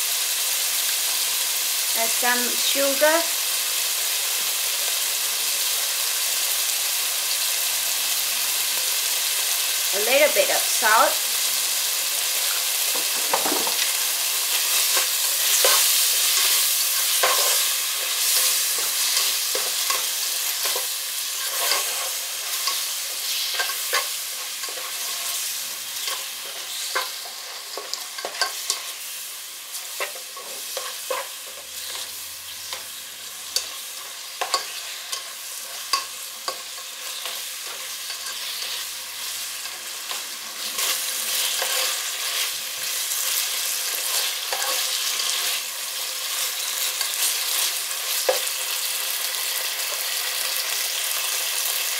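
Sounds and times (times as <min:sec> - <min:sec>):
meat sizzling in oil: 0:00.0 - 0:51.9.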